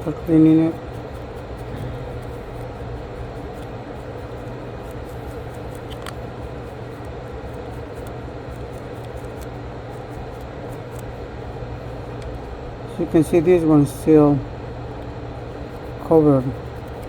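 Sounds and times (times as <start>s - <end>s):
fan running: 0.0s - 17.0s.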